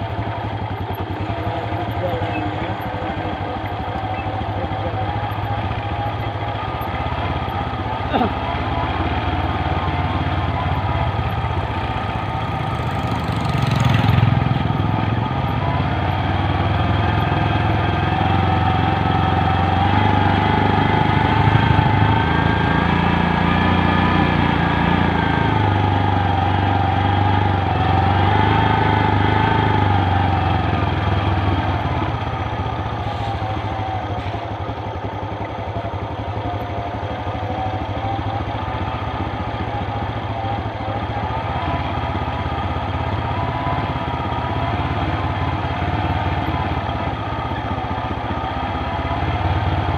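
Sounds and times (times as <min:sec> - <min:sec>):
motorcycle engine drone: 0:00.0 - 0:49.9.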